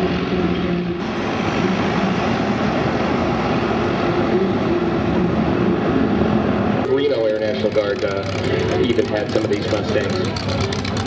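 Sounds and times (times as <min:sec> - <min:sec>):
engine drone: 0:01.0 - 0:11.0.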